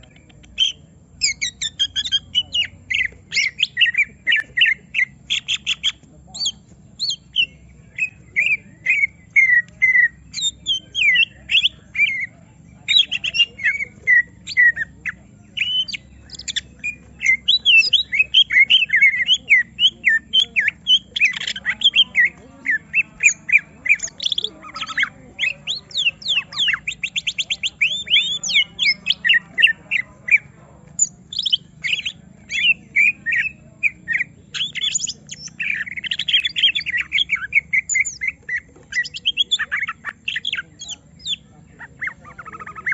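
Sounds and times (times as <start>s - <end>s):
bird singing whistled notes: 0.0s - 42.9s.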